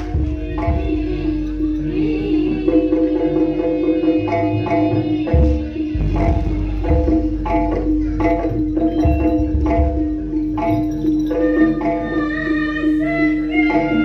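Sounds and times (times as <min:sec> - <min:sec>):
hand drums: 0:00.0 - 0:14.0
struck gamelan percussion: 0:00.0 - 0:14.0.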